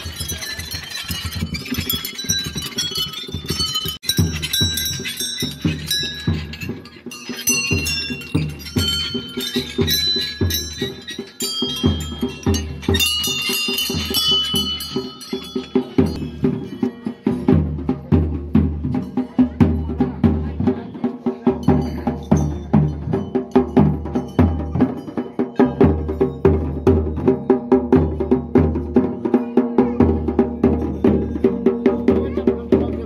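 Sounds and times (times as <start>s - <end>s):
bells ringing: 0.0s - 33.0s
steady drum beat: 0.0s - 33.0s.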